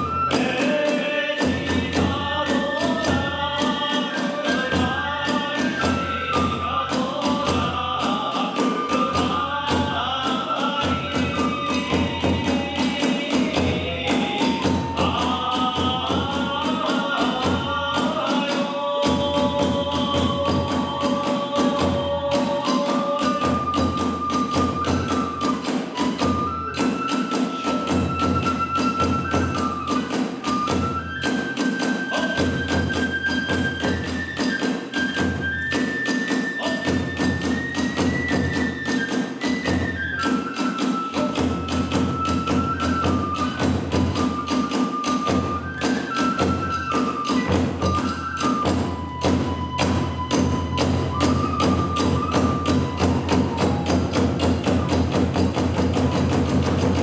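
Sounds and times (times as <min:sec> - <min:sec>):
bamboo flute melody: 0:00.0 - 0:57.0
fast drum strokes: 0:00.0 - 0:57.0.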